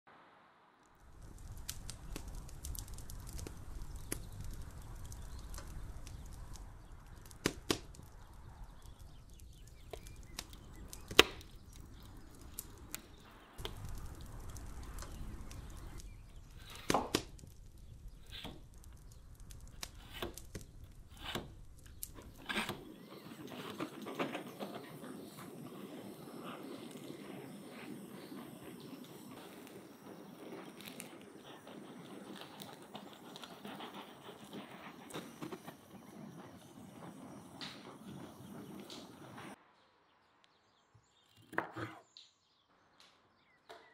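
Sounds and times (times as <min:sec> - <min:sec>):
wood fire crackling: 0:00.8 - 0:39.7.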